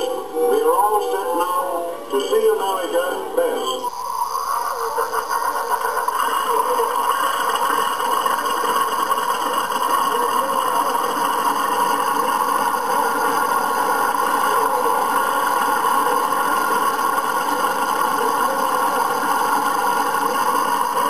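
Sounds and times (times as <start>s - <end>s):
film soundtrack hiss: 0.0s - 21.0s
radial aircraft engines running: 0.0s - 21.0s.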